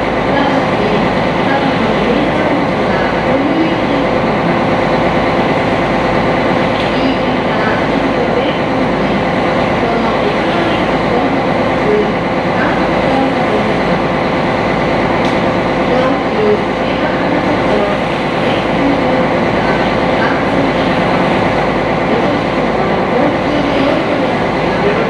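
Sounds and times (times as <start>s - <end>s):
boat engine and hull drone: 0.0s - 25.0s.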